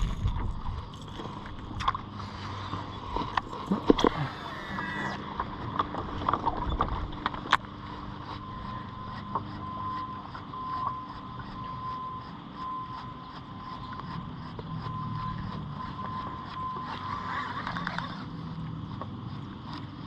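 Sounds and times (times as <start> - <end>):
small motor whining: 0.0 - 20.0.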